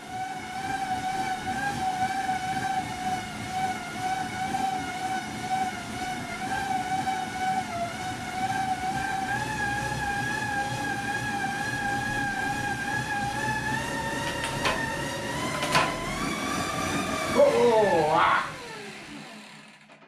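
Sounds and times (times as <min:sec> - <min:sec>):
bicycle tyres whining on rollers: 0:00.0 - 0:20.0.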